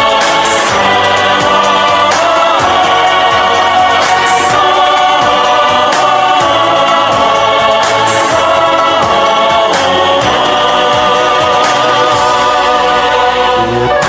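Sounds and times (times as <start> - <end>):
drum beat: 0.0 - 12.8
backing instruments: 0.0 - 14.0.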